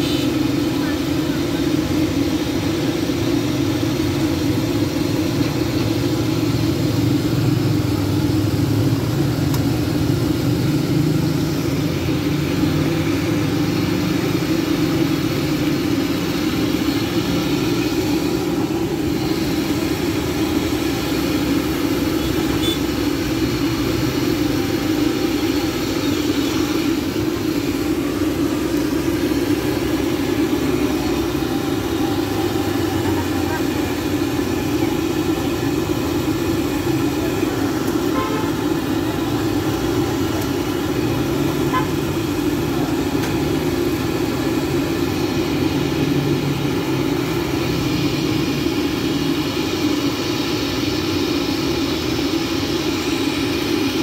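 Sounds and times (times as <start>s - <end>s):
gas burners roaring: 0.0s - 54.0s.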